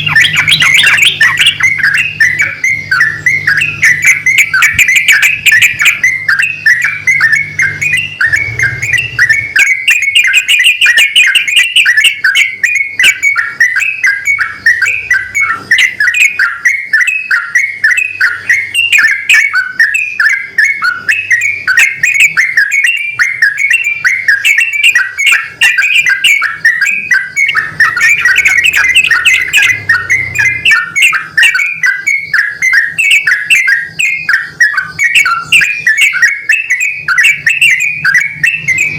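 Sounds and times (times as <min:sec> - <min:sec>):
bulbuls chirping: 0:00.0 - 0:38.9.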